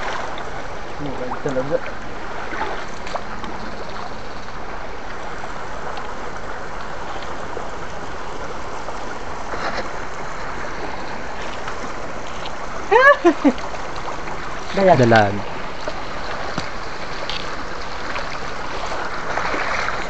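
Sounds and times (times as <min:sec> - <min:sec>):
stream water running over rocks: 0:00.0 - 0:20.0.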